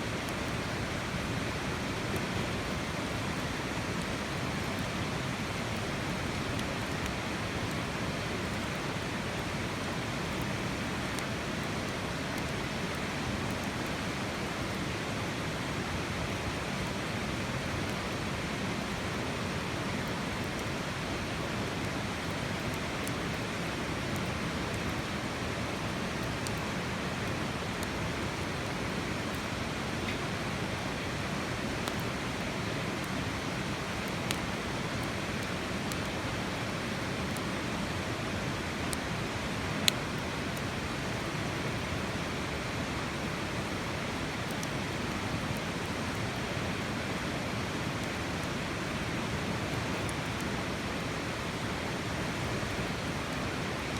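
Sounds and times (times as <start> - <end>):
campfire crackling: 0.2 - 39.1, 39.7 - 41.9, 42.5 - 48.8.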